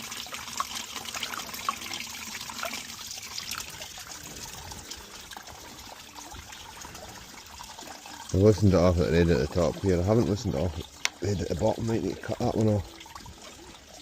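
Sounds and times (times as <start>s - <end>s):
coolant trickling and dripping: 0.0s - 14.0s.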